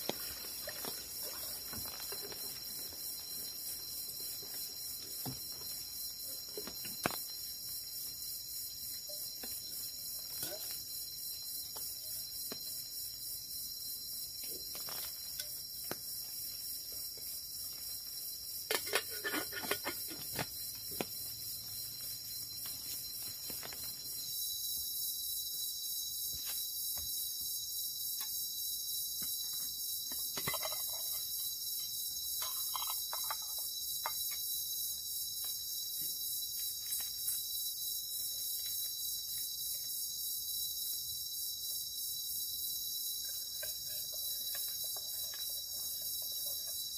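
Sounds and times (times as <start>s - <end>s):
crickets and forest insects: 0.0s - 46.9s.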